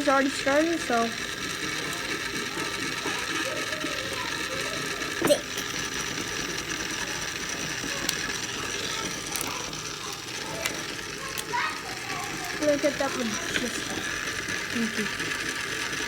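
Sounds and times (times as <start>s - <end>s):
motorized spinner whirring: 0.0s - 16.0s.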